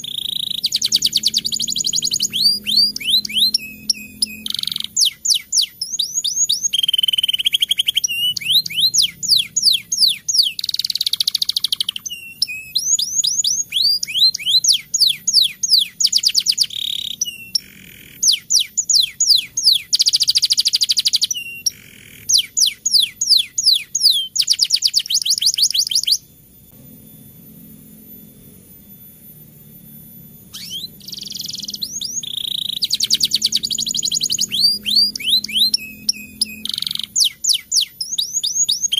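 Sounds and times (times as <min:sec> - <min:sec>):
canary singing: 0:00.0 - 0:26.4, 0:27.0 - 0:38.9.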